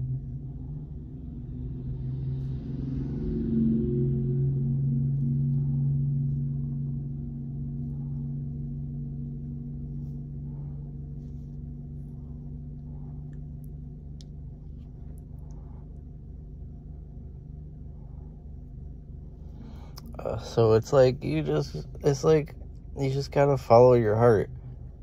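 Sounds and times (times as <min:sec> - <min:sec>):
low ringing tone: 0:00.0 - 0:22.9.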